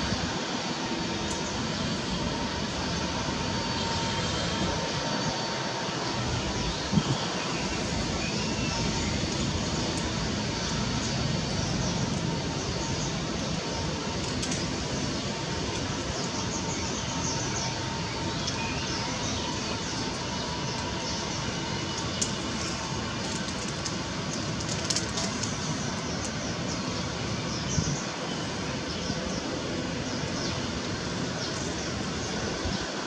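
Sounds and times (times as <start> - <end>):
jet engines rumbling at taxi: 0.0 - 33.0.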